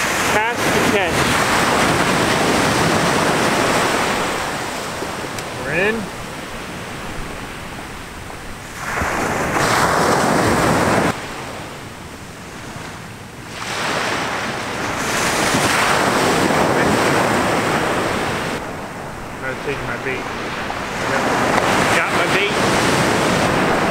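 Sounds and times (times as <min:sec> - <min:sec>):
ocean surf breaking on beach: 0:00.0 - 0:23.9
wind buffeting microphone: 0:00.0 - 0:23.9.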